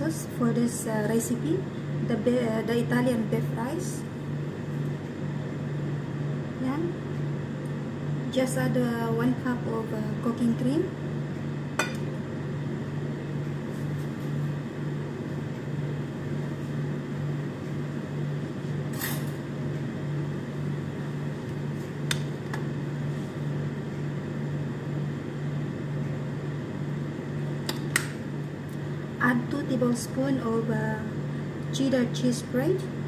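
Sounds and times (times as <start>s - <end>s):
low pulsing mechanical hum: 0.0s - 33.0s.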